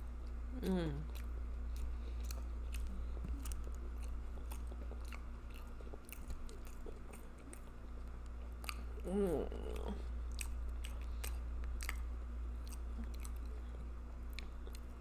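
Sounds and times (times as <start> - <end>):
chewing and lip smacking: 0.0 - 15.0
constant low hum: 0.0 - 15.0.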